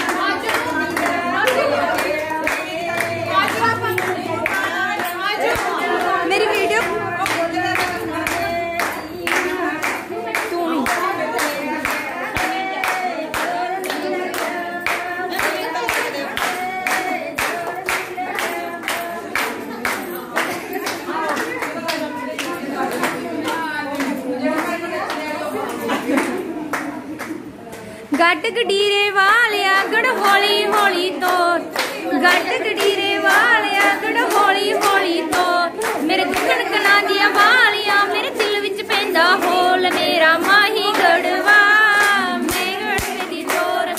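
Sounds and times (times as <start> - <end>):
women singing unaccompanied: 0.0 - 27.0, 28.0 - 43.9
rhythmic hand clapping: 0.0 - 43.9.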